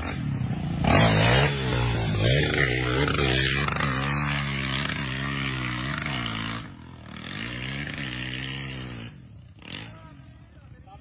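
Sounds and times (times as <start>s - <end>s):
dirt bike engine revving: 0.0s - 10.3s.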